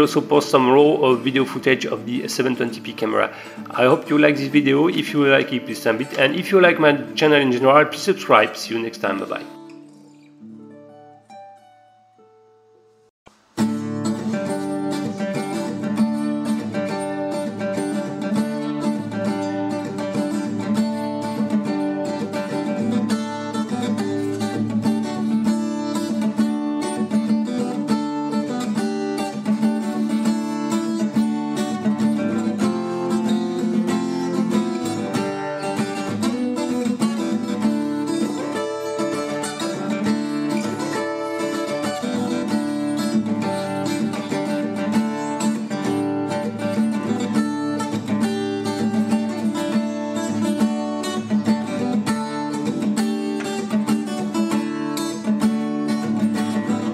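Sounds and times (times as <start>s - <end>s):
plucked guitar: 0.0s - 12.6s, 13.3s - 56.9s.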